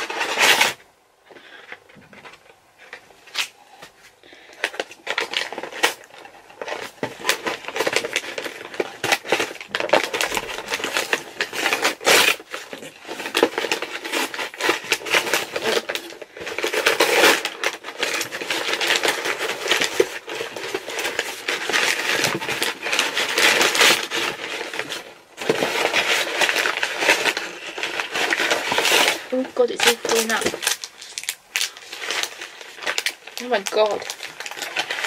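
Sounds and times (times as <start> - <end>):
packaging crinkling and rustling: 0.0 - 35.0.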